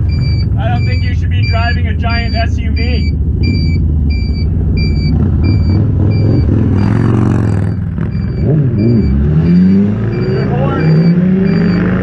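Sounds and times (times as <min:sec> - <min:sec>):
short electronic beeps: 0:00.0 - 0:12.0
vehicle engine rumbling: 0:00.0 - 0:12.0.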